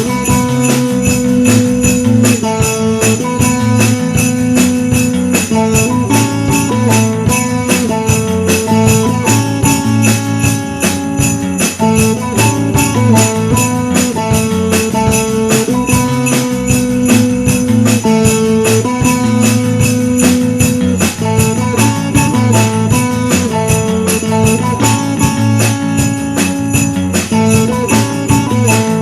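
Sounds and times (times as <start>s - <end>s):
sleigh bells shaking: 0.0s - 29.0s
upbeat christmas music: 0.0s - 29.0s.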